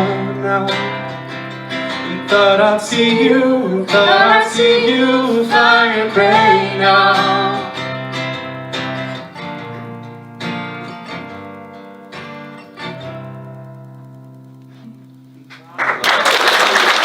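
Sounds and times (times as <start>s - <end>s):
acoustic guitar strumming: 0.0s - 15.6s.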